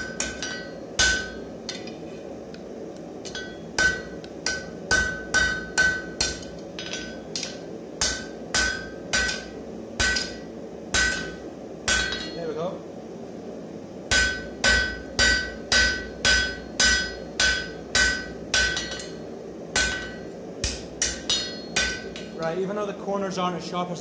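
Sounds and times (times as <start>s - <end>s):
hammer striking steel on anvil: 0.0s - 2.0s, 3.2s - 12.5s, 14.1s - 22.4s.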